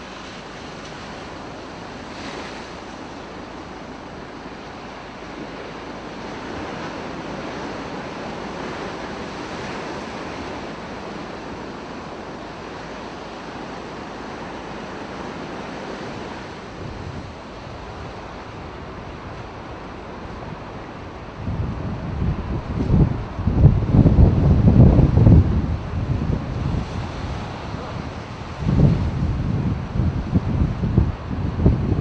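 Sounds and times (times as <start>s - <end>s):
rough sea waves: 0.0s - 32.0s
strong wind: 0.0s - 32.0s
wind rumble on microphone: 0.0s - 32.0s.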